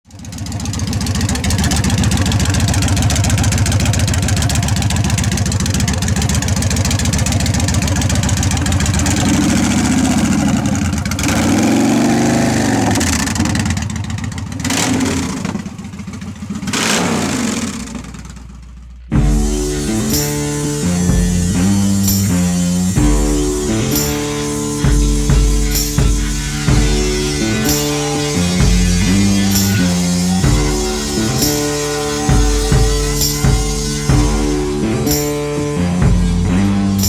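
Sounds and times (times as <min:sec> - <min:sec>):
car engine revving: 0:00.1 - 0:37.0.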